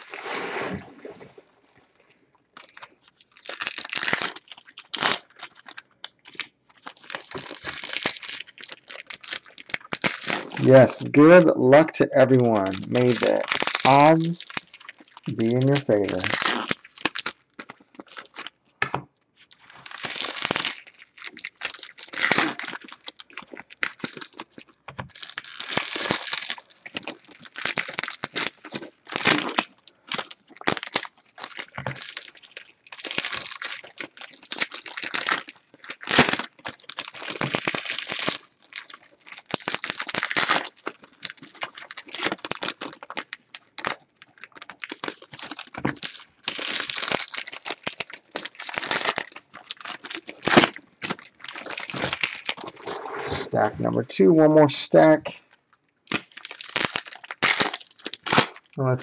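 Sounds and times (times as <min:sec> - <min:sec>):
wrappers torn and crinkled: 0:02.6 - 0:18.6, 0:19.4 - 0:53.6, 0:55.5 - 0:59.0.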